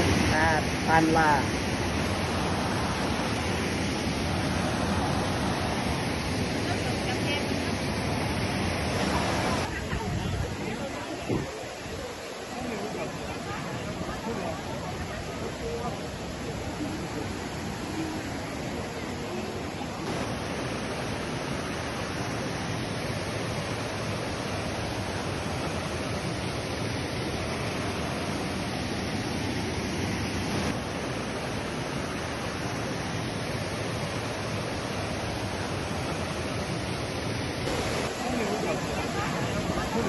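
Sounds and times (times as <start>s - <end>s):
stream rapids rushing: 0.0s - 40.0s.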